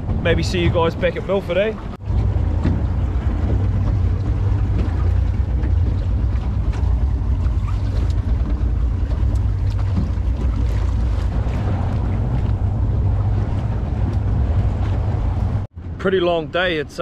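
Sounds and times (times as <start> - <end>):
outboard motor running: 0.0 - 16.0
water slapping against hull: 0.0 - 16.4
wind buffeting microphone: 0.0 - 17.0.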